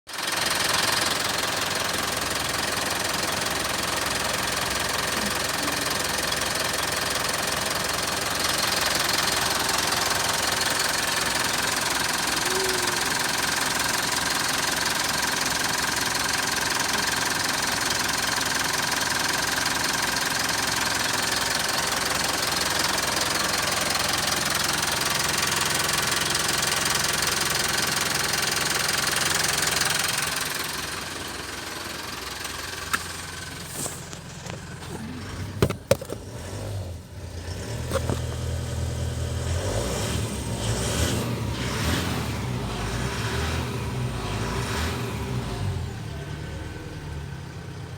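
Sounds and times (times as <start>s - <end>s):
diesel engine running: 0.1s - 47.9s.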